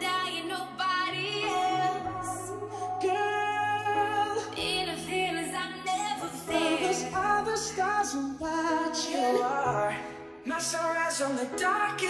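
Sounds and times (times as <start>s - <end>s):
pop music with sung vocals: 0.0s - 12.0s.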